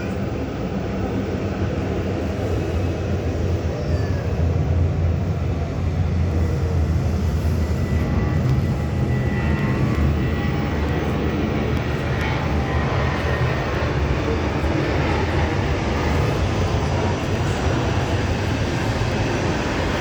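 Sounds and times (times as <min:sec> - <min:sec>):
faint high whine: 0:00.0 - 0:20.0
jet engines rumbling: 0:00.0 - 0:20.0.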